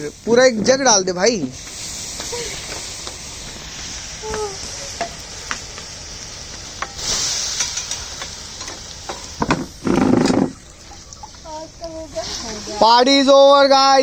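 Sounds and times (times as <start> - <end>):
crackling pops: 0.0 - 12.8
embers hissing and sizzling: 0.0 - 14.0.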